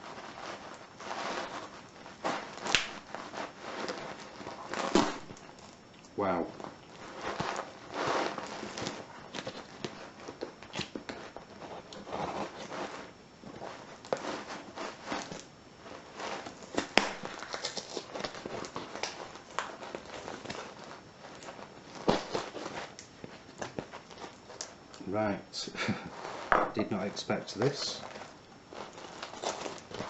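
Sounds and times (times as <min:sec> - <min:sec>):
packaging rustling and crinkling: 0:00.0 - 0:25.0, 0:25.9 - 0:30.0.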